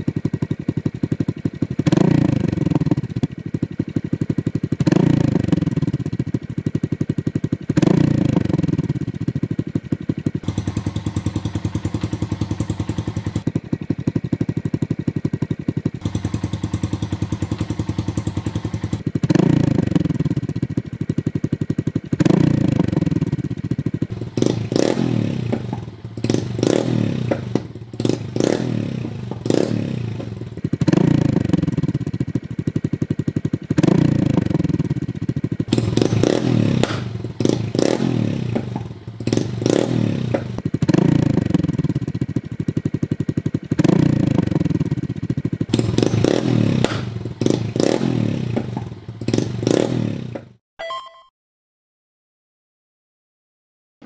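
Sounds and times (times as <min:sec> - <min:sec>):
motorcycle engine accelerating: 0:00.0 - 0:50.6.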